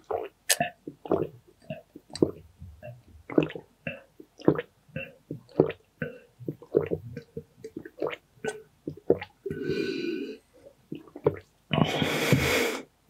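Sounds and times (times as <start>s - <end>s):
person gulping water: 0.0s - 12.5s.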